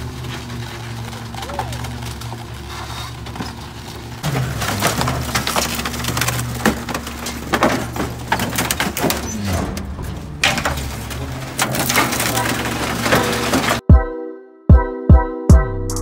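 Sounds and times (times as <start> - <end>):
truck engine and hydraulics hum: 0.0 - 13.8
wood frames cracking and splintering: 0.0 - 13.8.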